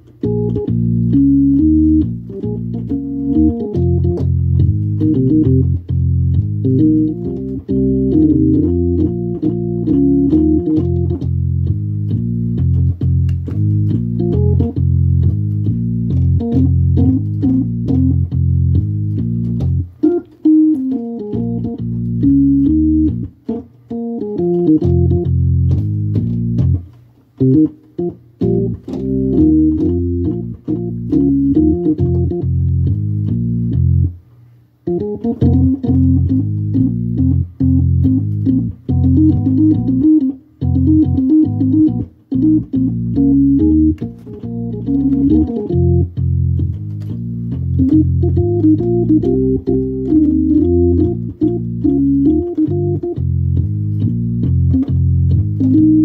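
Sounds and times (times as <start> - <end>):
organ playing chords: 0.0 - 34.2, 34.8 - 56.0.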